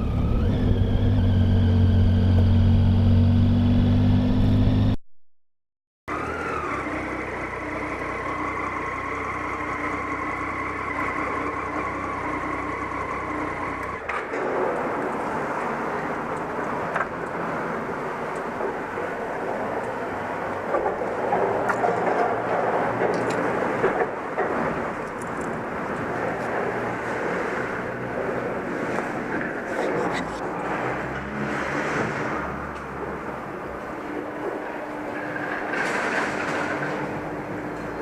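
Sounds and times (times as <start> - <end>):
wind and road noise: 0.0 - 5.0, 6.1 - 38.0.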